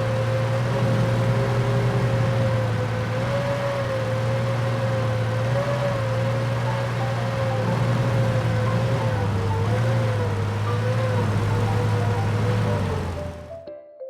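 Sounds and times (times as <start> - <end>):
tank engine drone with whine: 0.0 - 13.6.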